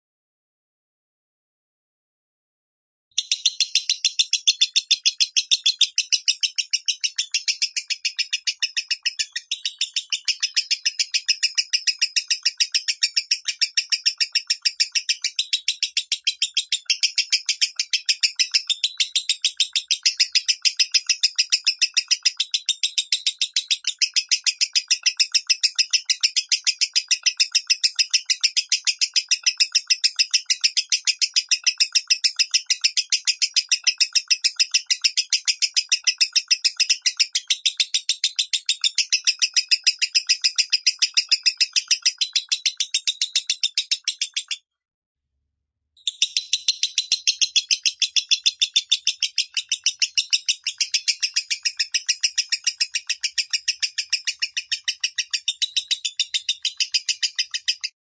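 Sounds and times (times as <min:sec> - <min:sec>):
lovebird chattering: 0:03.2 - 0:44.6, 0:46.0 - 0:58.0.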